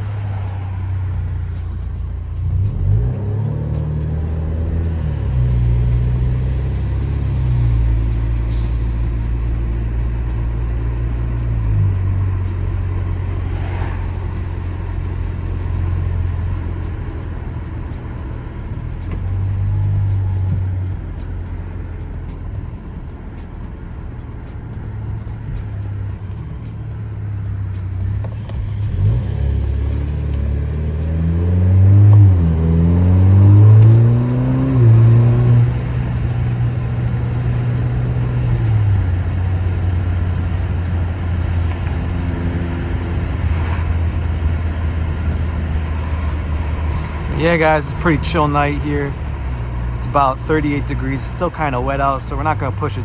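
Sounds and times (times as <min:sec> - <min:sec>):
car engine and exhaust driving: 0:00.0 - 0:53.0.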